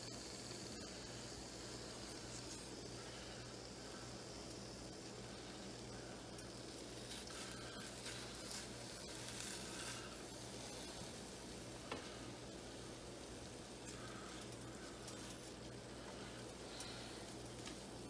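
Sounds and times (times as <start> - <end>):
bacon sizzling in skillet: 0.0 - 18.0
steady low hum: 0.0 - 18.0.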